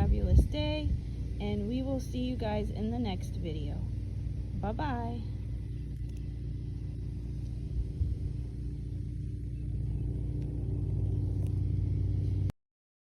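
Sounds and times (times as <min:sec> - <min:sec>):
motor vehicle rumbling: 0:00.0 - 0:12.5.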